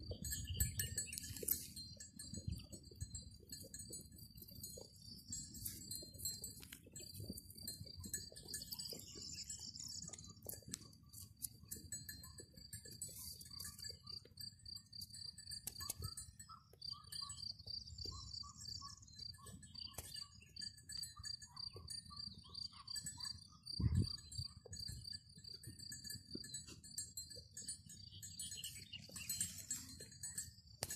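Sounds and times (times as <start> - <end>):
rapid high-pitched chirping: 0.0 - 30.6.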